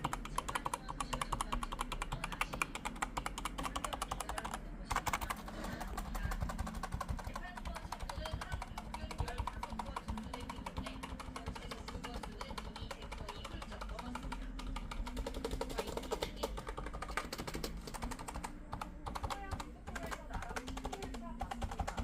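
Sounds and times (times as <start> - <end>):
fast mechanical keyboard typing: 0.0 - 22.0.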